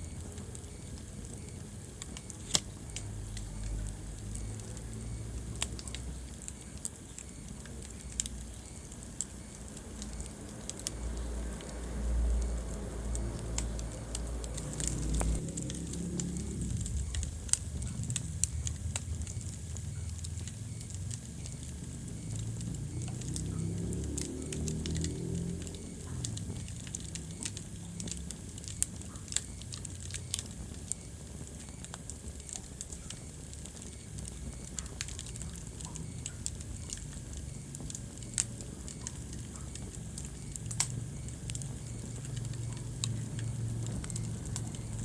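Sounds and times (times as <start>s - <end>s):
low rumble of flames: 0.0s - 45.0s
wood fire crackling and popping: 0.0s - 45.0s.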